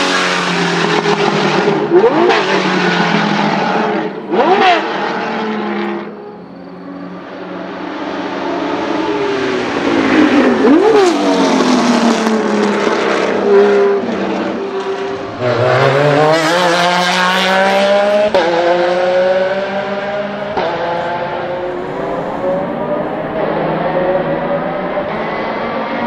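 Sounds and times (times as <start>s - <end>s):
race car engines at full speed: 0.0s - 26.0s.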